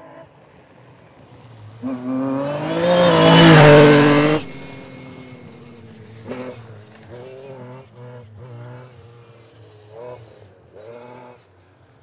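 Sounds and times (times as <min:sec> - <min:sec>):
rally car engine at full throttle: 0:01.3 - 0:12.0.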